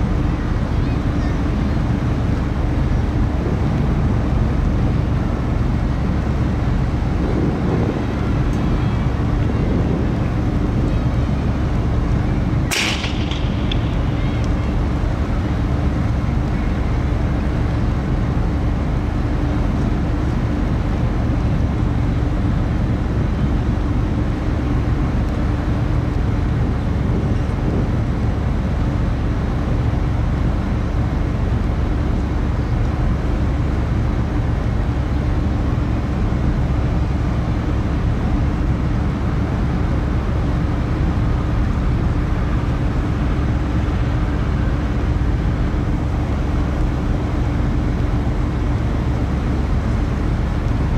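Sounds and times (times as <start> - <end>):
ferry engines rumbling: 0.0 - 50.9
steady hum: 0.0 - 50.9.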